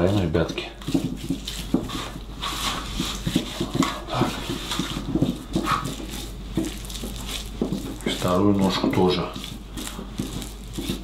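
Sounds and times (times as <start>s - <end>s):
hands rubbing wet meat: 0.0s - 11.0s
hands slapping meat: 0.8s - 11.0s.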